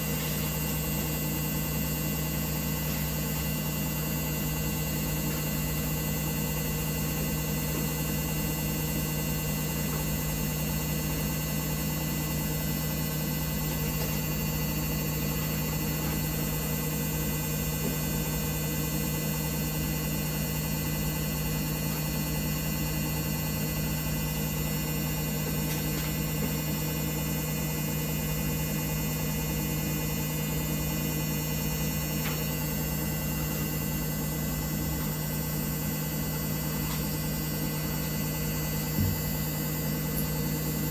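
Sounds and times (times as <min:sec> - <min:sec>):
washing machine running: 0:00.0 - 0:40.9.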